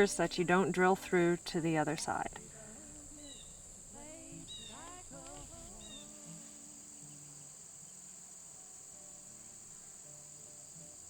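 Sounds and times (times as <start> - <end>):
faint music with gliding notes: 0.0 - 11.0
insects chirring: 0.0 - 11.0.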